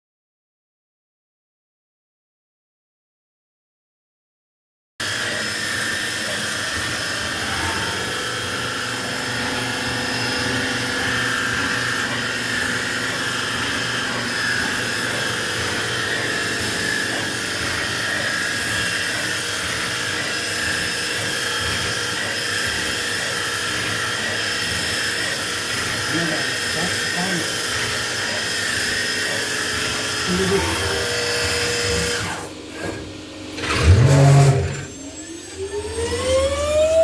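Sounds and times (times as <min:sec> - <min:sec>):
machine spindle whine: 0:05.0 - 0:37.0.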